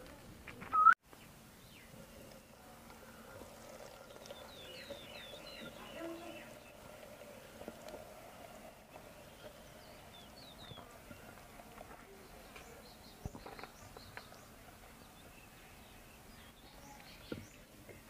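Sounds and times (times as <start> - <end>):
small birds chirping: 0.6 - 2.6, 3.4 - 18.0.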